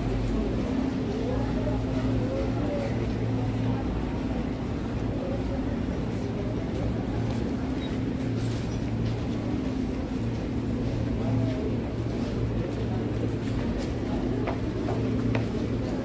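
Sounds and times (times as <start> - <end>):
train interior rumble and hum: 0.0 - 16.0.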